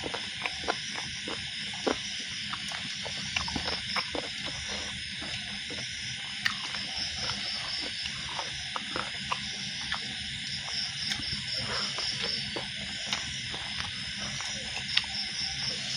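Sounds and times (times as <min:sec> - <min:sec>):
chewing clicks and smacks: 0:00.0 - 0:15.4
crickets trilling: 0:00.0 - 0:15.9.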